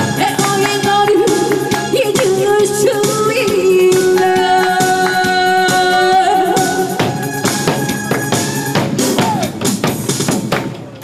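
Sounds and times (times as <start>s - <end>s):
percussion hits: 0.0s - 11.0s.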